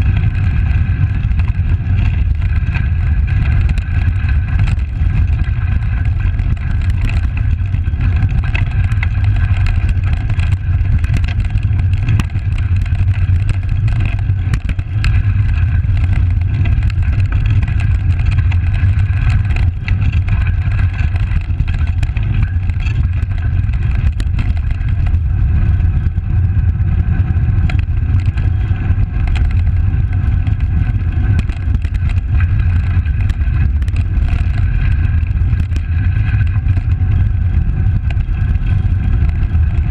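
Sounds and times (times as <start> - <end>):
bike tyre vibration on gravel: 0.0 - 39.9
small clicks and rattles: 0.0 - 39.9
wind rumble: 0.0 - 39.9.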